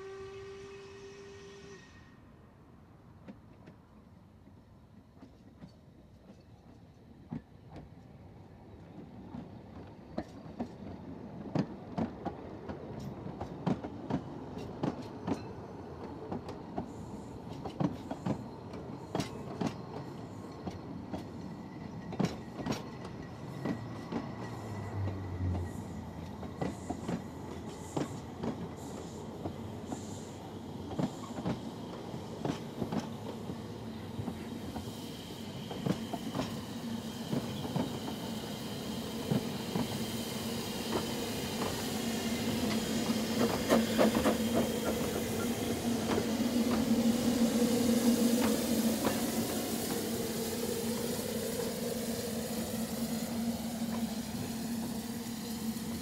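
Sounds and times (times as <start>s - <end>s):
steam train rolling past: 0.0s - 56.0s.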